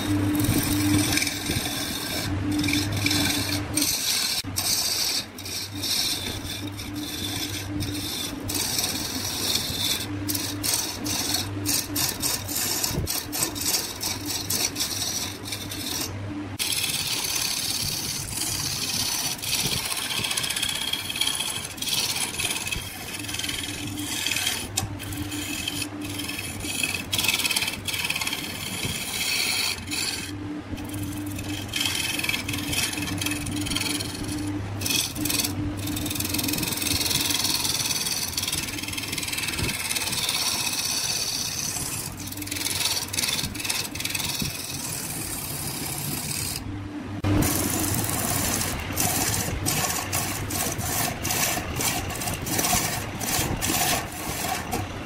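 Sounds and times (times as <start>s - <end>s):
tool scraping spinning wood: 0.0s - 55.0s
wood lathe humming: 0.0s - 55.0s.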